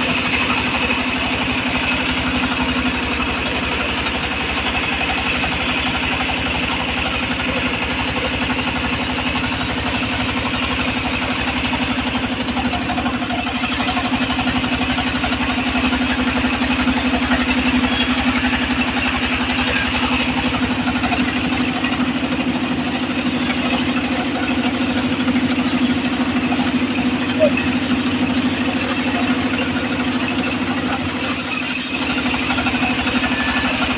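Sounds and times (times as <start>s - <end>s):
sawmill engine idling: 0.0s - 33.9s.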